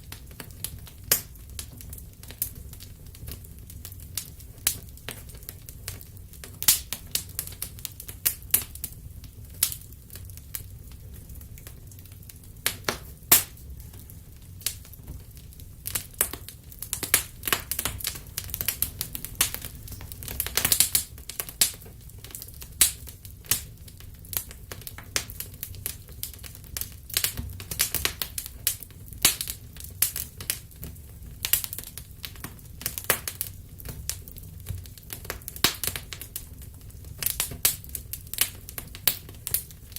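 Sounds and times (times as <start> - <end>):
low rumble of burning: 0.0 - 39.9
wood fire popping and snapping: 0.0 - 39.9.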